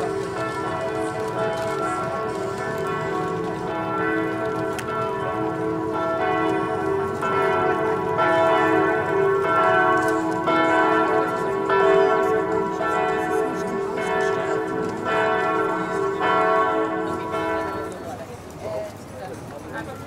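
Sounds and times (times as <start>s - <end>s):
church bells pealing: 0.0s - 18.5s.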